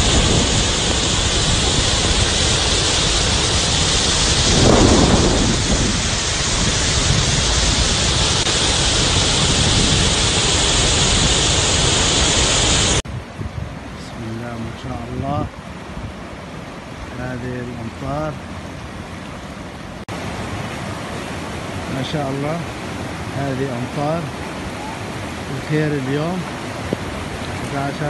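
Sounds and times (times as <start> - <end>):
heavy water rumble: 0.0 - 28.0
water rushing over spillway: 0.0 - 28.0.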